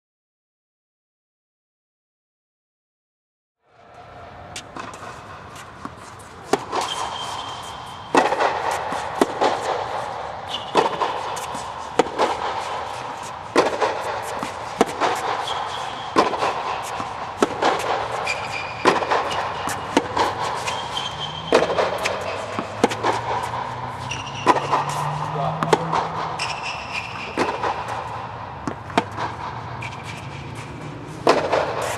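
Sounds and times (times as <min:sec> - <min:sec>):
racket hitting tennis ball: 0:03.8 - 0:31.9
tennis ball bouncing: 0:03.8 - 0:31.9
shoe squeaks: 0:04.5 - 0:28.3, 0:29.2 - 0:31.9.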